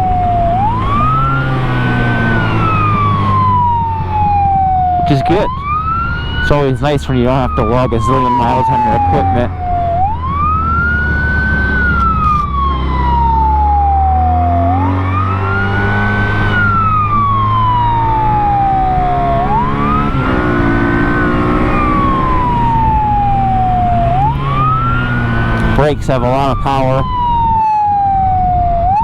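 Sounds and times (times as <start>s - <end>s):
motorcycle engine accelerating: 0.0s - 28.4s
police siren wailing: 0.0s - 29.0s.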